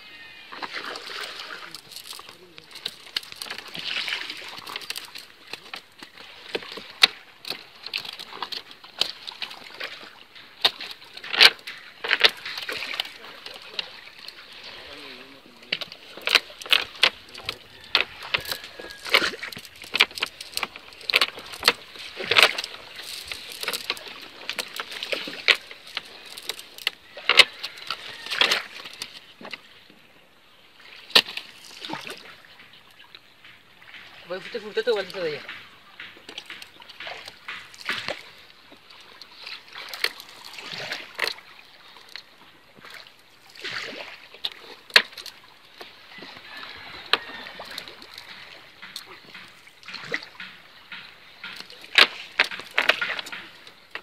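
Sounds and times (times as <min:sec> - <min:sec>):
fish slapping on wooden floor: 0:00.5 - 0:14.9, 0:15.7 - 0:29.6, 0:33.5 - 0:42.2, 0:43.6 - 0:54.0.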